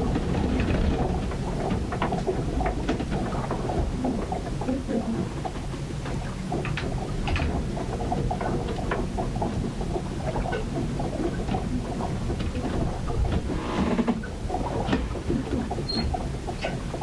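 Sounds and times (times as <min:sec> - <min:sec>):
rumble of wind and water: 0:00.0 - 0:17.0.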